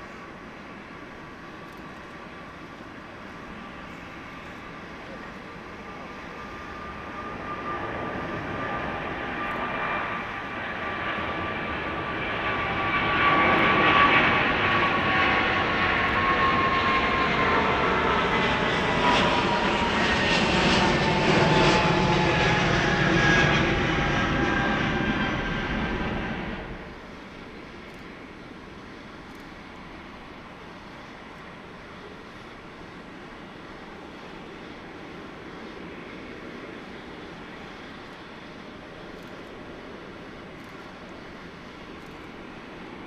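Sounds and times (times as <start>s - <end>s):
jet engine roar: 0.0s - 43.0s.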